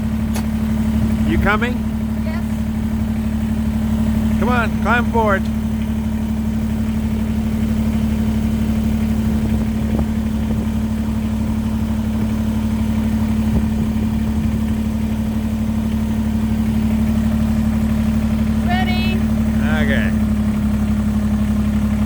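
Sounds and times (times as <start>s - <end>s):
diesel tractor engine idling: 0.0s - 22.0s.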